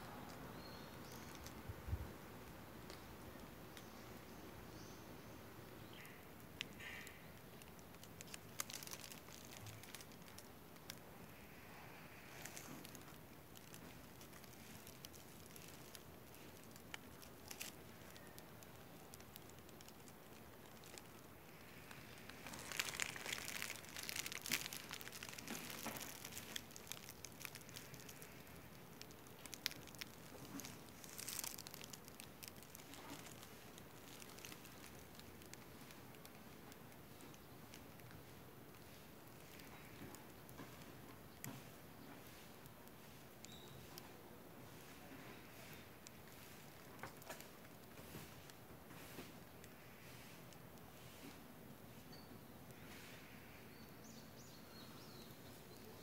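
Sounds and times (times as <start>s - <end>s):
crackling rustles: 0.0s - 56.0s
faint outdoor hiss: 0.0s - 56.0s.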